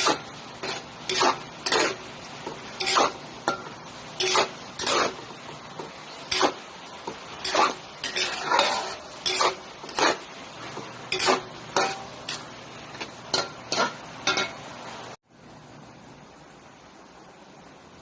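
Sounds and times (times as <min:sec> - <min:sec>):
utensil scraping a pan: 0:00.0 - 0:14.6
food sizzling in a pan: 0:00.0 - 0:15.2
faint steady hiss: 0:00.0 - 0:18.0.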